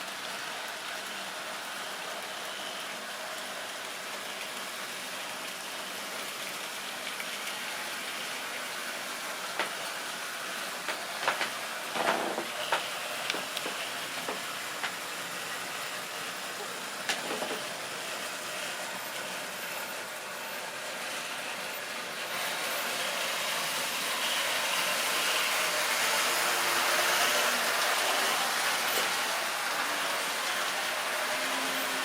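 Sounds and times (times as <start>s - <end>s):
model train running on track: 0.0s - 32.0s.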